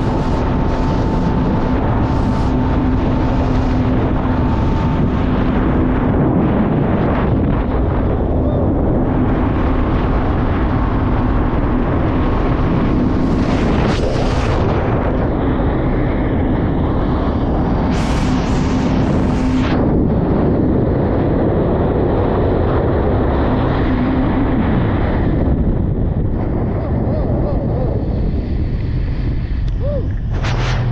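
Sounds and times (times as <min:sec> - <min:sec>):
jet ski engine drone: 0:00.0 - 0:30.9
wind on microphone: 0:00.0 - 0:30.9.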